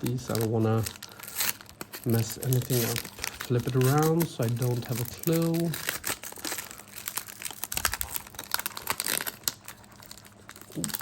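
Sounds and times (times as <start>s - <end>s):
wrapper crinkling and tearing: 0.0s - 11.0s.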